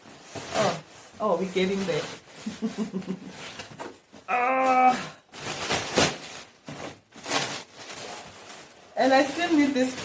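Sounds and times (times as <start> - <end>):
plastic and cardboard rustling: 0.0 - 4.3, 5.1 - 10.0.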